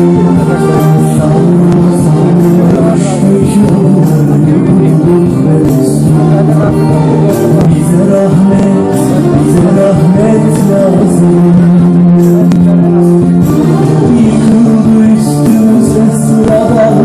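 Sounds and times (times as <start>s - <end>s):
instrumental accompaniment: 0.0s - 17.0s
man singing into microphone: 0.0s - 17.0s.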